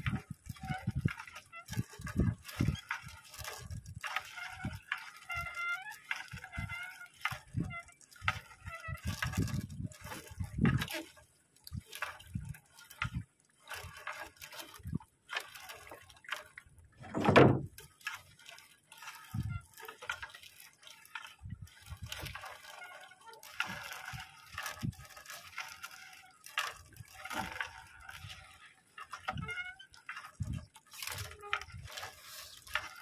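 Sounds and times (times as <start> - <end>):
sea water sloshing and splashing: 0.0 - 33.0.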